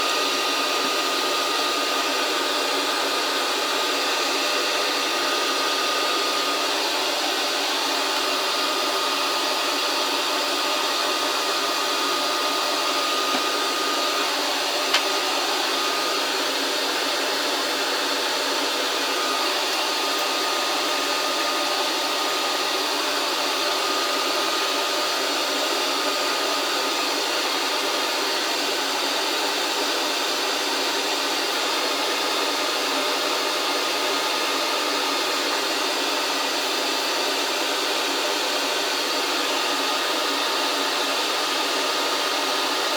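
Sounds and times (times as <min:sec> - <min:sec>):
hot-air station blowing: 0:00.0 - 0:42.9.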